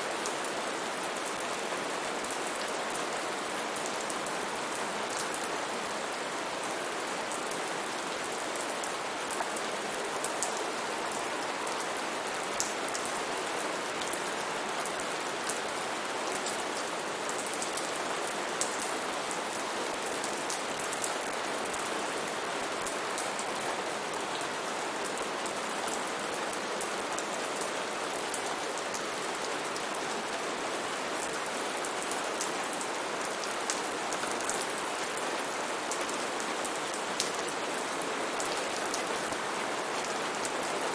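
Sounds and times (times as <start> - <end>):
heavy rain on foliage: 0.0 - 40.9.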